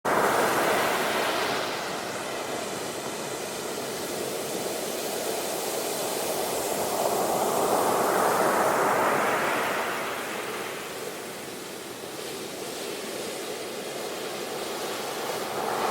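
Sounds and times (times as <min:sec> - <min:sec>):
waves breaking on shore: 0:00.1 - 0:15.9.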